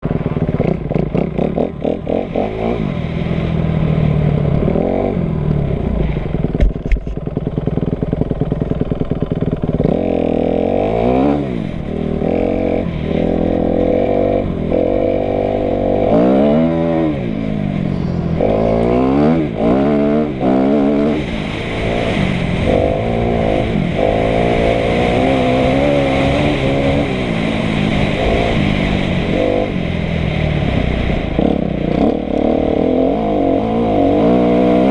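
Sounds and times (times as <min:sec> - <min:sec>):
dirt bike engine revving: 0:00.0 - 0:06.6, 0:07.2 - 0:34.9.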